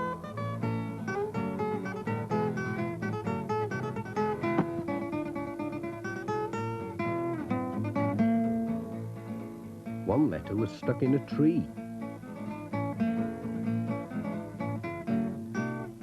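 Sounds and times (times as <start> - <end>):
plucked acoustic guitar music: 0.0 - 16.0.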